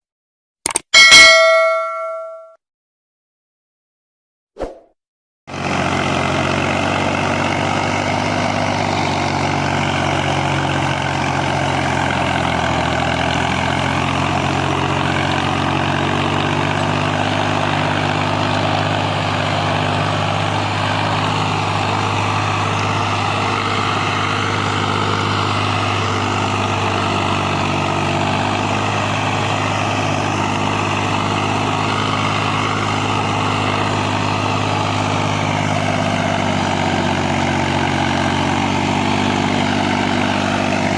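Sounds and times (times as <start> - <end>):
tractor diesel engine droning: 1.1 - 2.5, 5.5 - 40.9.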